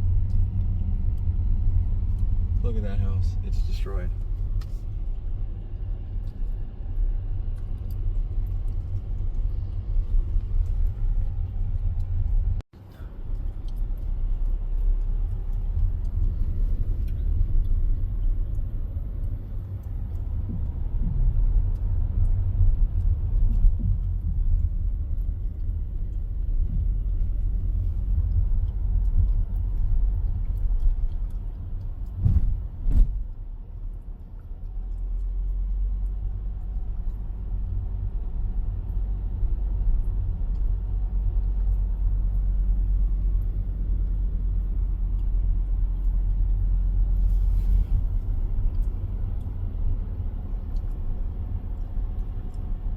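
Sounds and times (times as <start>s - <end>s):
car driving rumble: 0.0s - 52.9s.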